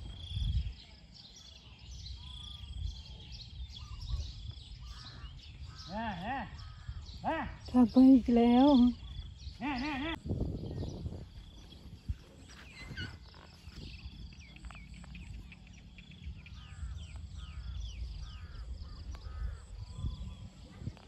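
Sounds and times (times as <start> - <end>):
birds chirping and whistling: 0.0 - 21.0.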